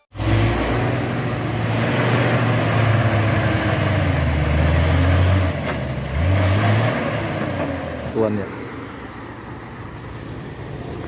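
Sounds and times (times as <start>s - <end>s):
truck diesel engine labouring uphill: 0.0s - 11.0s.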